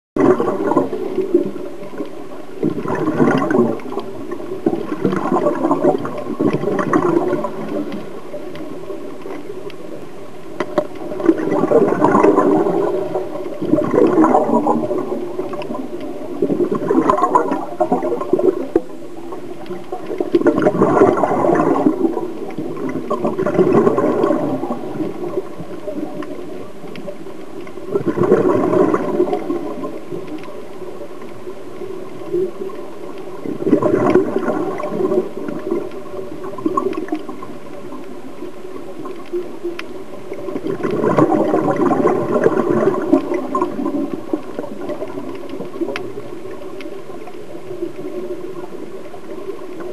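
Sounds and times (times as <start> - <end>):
exhaled bubbles gurgling: 0.2 - 49.9.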